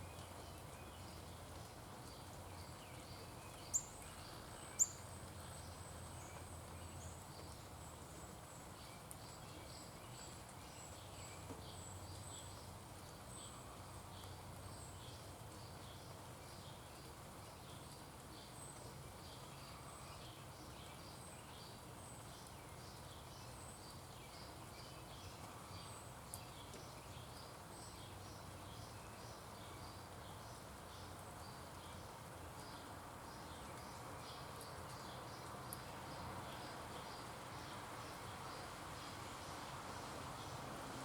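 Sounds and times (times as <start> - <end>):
small birds chirping: 0.0 - 39.4.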